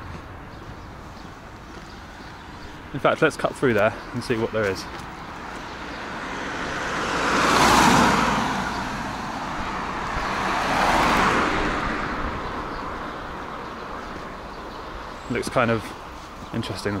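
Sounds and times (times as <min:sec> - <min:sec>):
cars passing by: 0:00.0 - 0:17.0.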